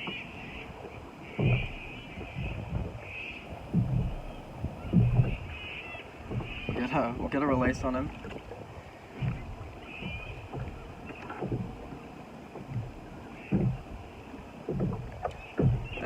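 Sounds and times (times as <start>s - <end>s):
water slapping against kayak hull: 0.0s - 16.0s.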